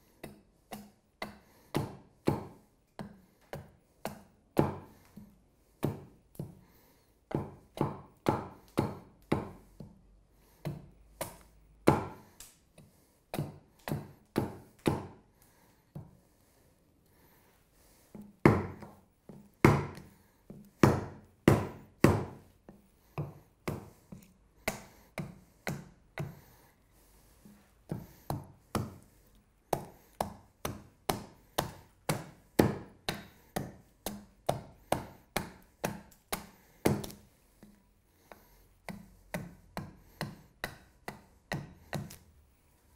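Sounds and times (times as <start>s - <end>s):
hatchet chopping wood: 0.2s - 6.7s, 7.3s - 10.0s, 10.6s - 15.2s, 18.2s - 26.6s, 27.4s - 42.3s.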